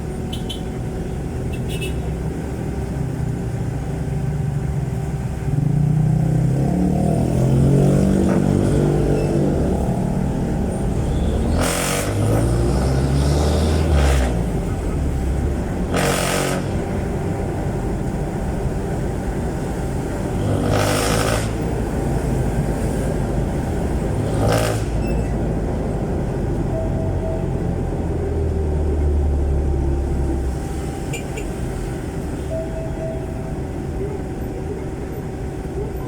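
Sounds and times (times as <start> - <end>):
diesel engine rumbling: 0.0 - 36.0.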